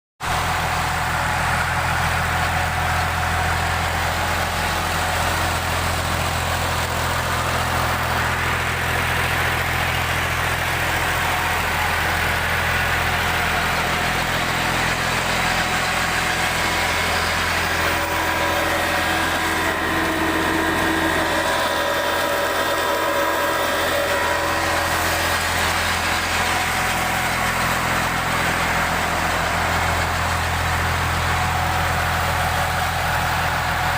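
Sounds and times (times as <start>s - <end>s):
tractor diesel engine idling: 0.2s - 33.9s.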